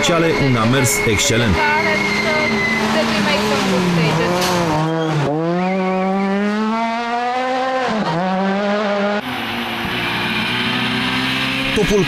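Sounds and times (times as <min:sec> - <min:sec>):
rally car engine at full throttle: 0:00.0 - 0:12.0
rally car engine high steady pitch: 0:00.0 - 0:12.0.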